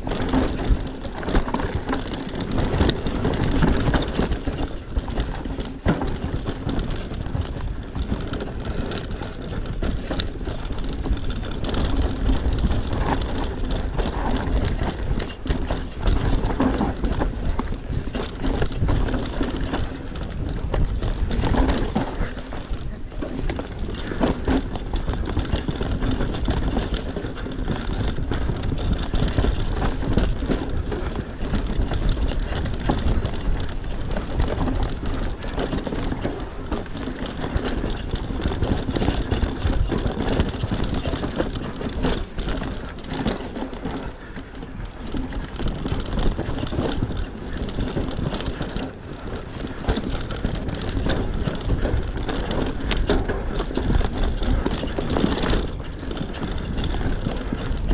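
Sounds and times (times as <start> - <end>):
mountain bike clattering over rocks: 0.0 - 57.9.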